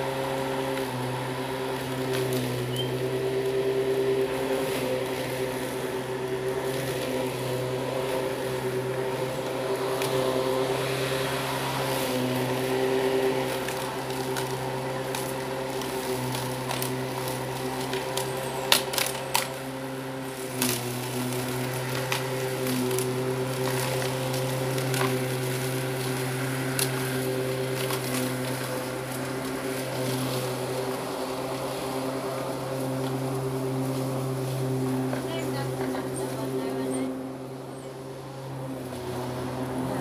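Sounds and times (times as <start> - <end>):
electric lawn mower running: 0.0 - 40.0.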